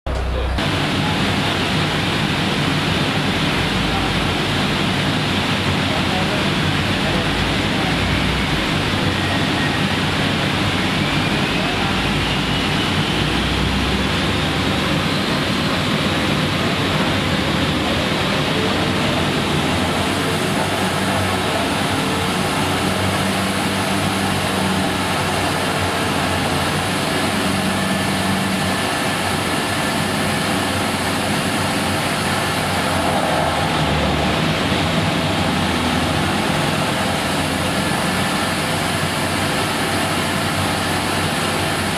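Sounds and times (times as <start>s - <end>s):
loud rushing noise: 0.1s - 41.9s
engine whine rising: 6.9s - 41.9s.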